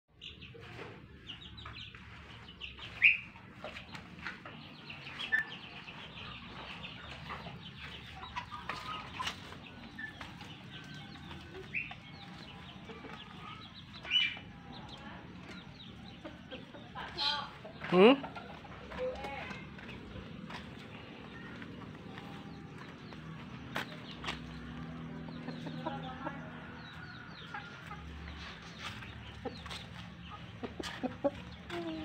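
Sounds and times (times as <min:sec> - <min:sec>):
chicks peeping and clucking: 0:00.1 - 0:32.0.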